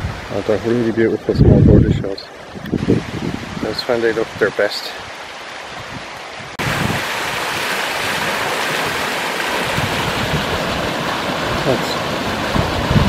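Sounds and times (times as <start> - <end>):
rushing river water: 0.0 - 13.0.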